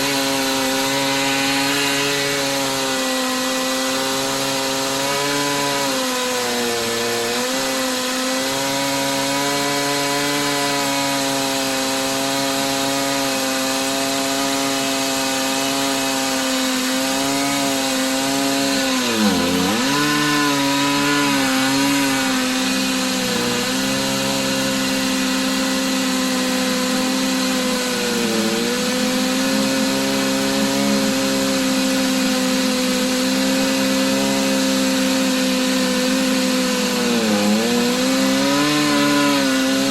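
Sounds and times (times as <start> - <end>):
chainsaw cutting log at full throttle: 0.0 - 39.9.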